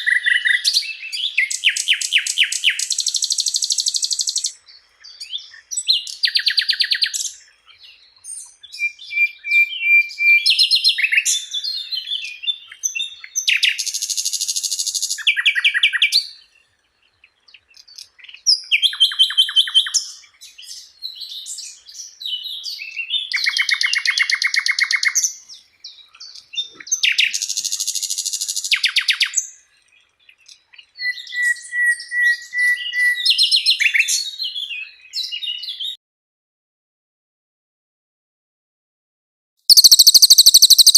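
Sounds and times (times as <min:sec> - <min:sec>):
songbird chirps and trills: 0:00.0 - 0:36.0, 0:39.7 - 0:40.9.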